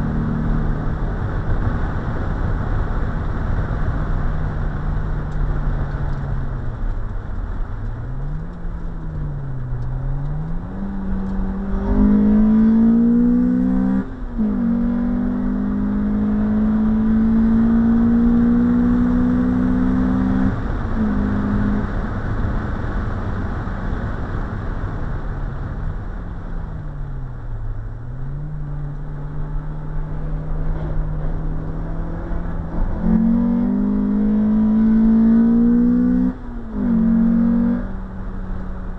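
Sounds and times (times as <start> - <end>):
car engine revving: 0.0 - 23.6, 24.6 - 38.9
road and tyre noise: 0.0 - 38.9.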